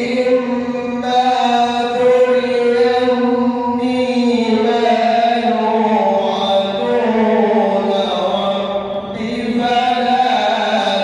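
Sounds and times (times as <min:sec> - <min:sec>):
man chanting recitation: 0:00.0 - 0:11.0.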